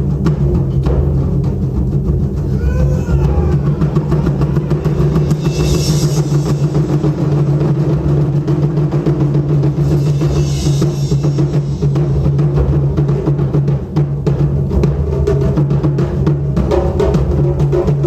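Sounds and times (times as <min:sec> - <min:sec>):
taiko drum ensemble: 0:00.0 - 0:18.0.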